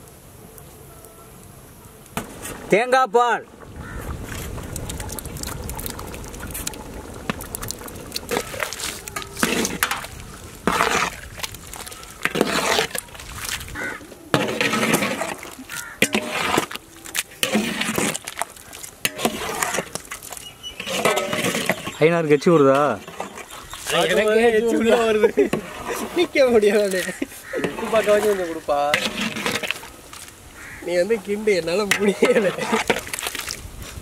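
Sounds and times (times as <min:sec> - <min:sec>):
thick gravy sloshing: 0:03.5 - 0:34.0.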